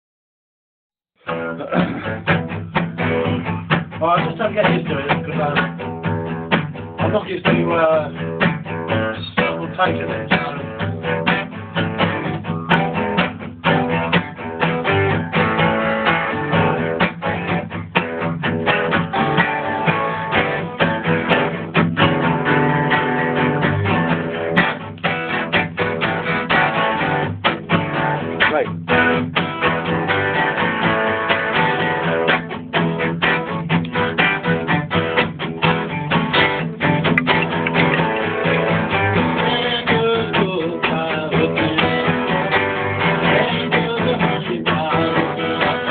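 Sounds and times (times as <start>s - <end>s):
guitar plucked notes and chords: 1.2s - 45.9s.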